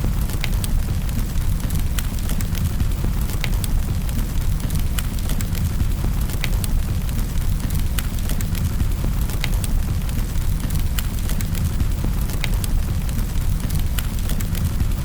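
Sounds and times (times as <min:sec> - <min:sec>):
fire crackling in a fireplace: 0:00.0 - 0:15.0.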